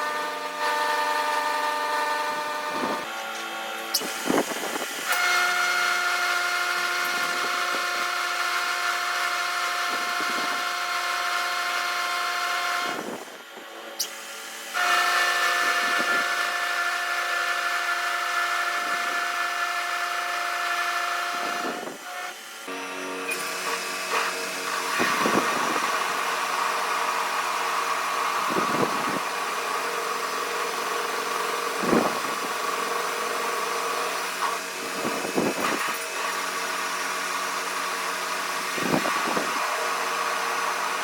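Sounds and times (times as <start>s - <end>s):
workshop machine whining: 0.0s - 41.0s.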